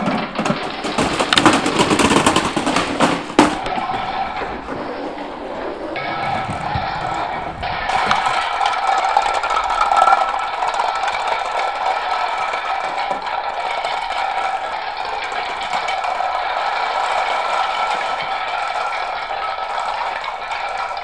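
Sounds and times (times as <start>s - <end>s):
plastic cartridges clattering on floor: 0.0s - 5.0s, 6.0s - 21.0s.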